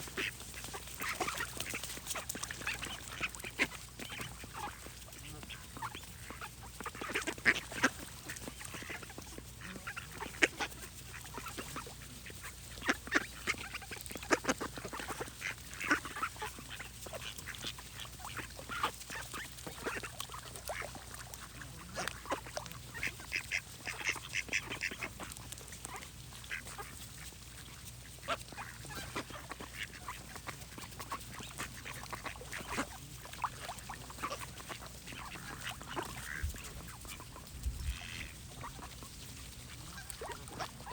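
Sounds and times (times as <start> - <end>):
ducks quacking: 0.0 - 40.9.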